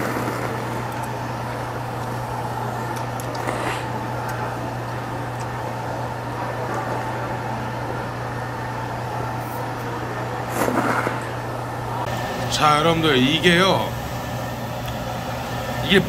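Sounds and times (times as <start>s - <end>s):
machinery humming and whirring: 0.0s - 16.0s.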